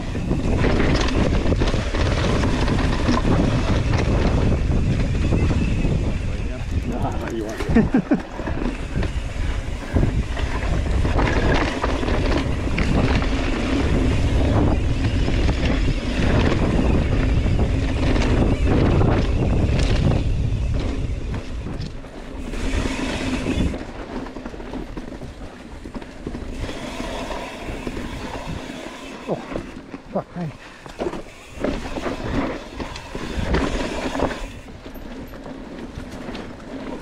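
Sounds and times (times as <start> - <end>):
wind buffeting microphone: 0.0 - 30.0, 30.8 - 37.0
bike frame and chain rattling: 0.0 - 37.0.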